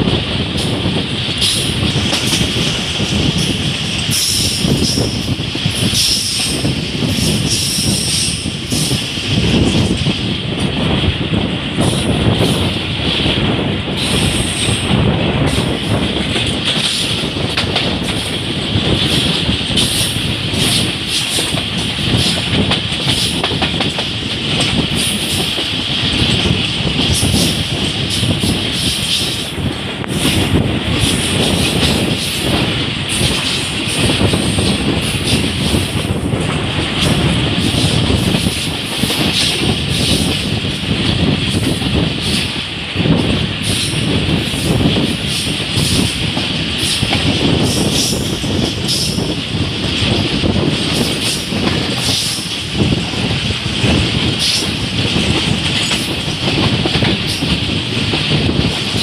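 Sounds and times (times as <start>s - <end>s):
rail joint clacks: 0.0s - 59.0s
train wheels rumbling on rails: 0.0s - 59.0s.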